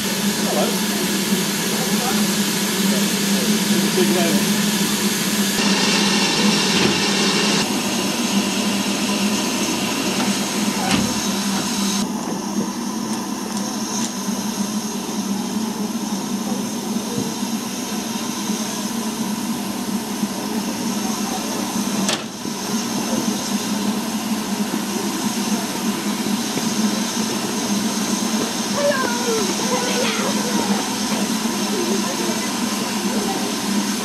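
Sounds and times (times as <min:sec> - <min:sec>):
steam hissing: 0:00.0 - 0:34.0.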